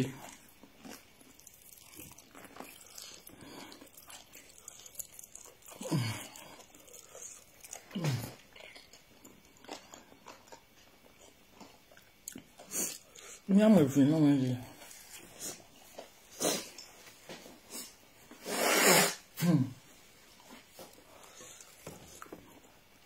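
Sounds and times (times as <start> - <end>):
person chewing food: 0.0 - 13.5, 14.6 - 18.4, 20.1 - 23.0.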